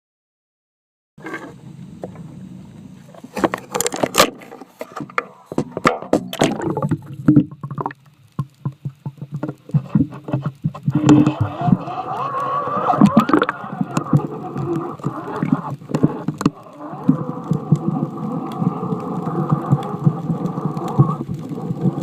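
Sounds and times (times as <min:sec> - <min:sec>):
low steady hum: 0:01.2 - 0:22.0
water sloshing underwater: 0:01.2 - 0:22.0.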